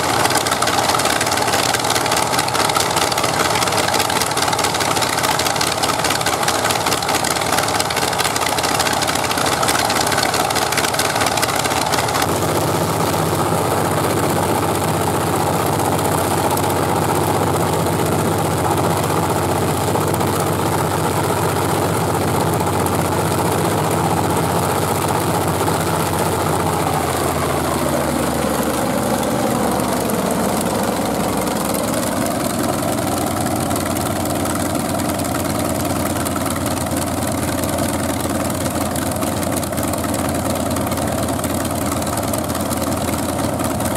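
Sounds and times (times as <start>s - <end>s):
radial aero engine running: 0.0s - 43.9s.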